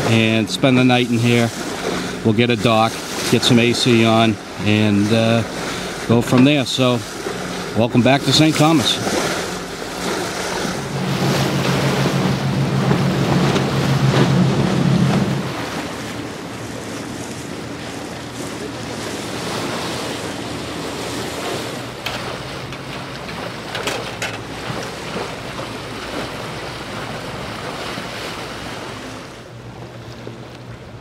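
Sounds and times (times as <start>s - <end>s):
low engine drone: 0.0s - 31.0s
water rushing past boat hull: 0.0s - 31.0s
wind buffeting microphone: 1.2s - 29.1s.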